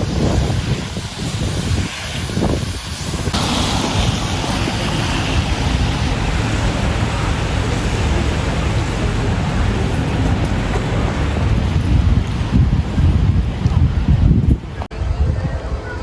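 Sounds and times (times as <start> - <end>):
passing road traffic: 0.0 - 15.0
wind buffeting microphone: 0.0 - 16.0.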